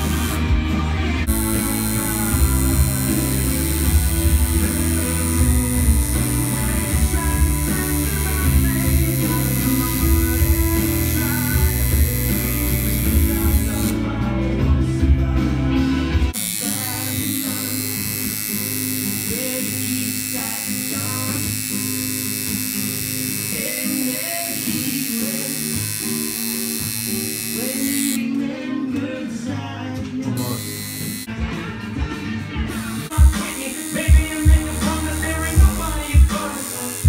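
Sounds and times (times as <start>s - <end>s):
tattoo machine buzzing: 0.0s - 0.5s, 1.2s - 14.1s, 16.3s - 28.2s, 30.4s - 31.3s, 32.9s - 37.0s
music with singing and guitar: 0.0s - 37.0s.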